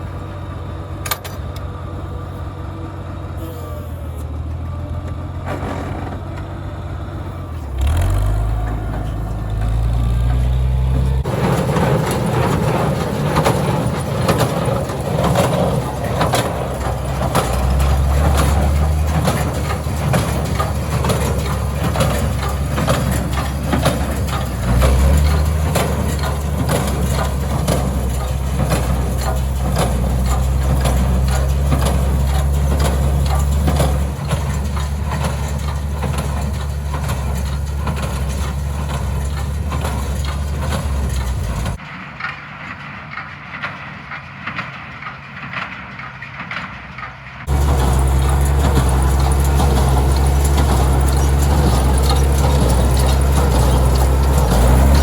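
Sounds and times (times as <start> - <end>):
tractor engine under load: 0.0 - 55.0
baler knocking and crunching: 5.1 - 55.0.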